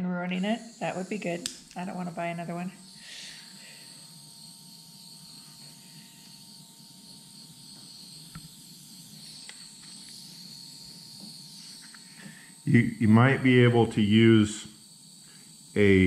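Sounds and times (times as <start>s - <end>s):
propane torch hissing: 0.1s - 16.0s.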